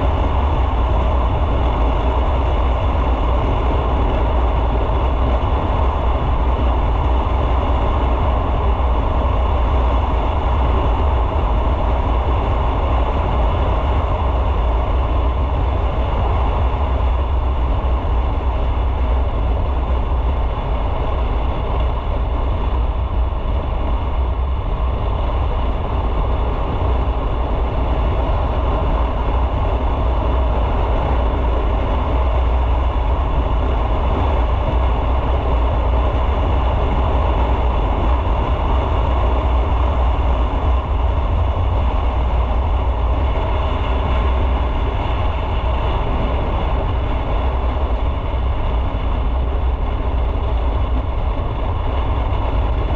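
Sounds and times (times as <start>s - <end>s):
motorcycle engine drone: 0.0s - 52.9s
road and wind noise: 0.0s - 52.9s.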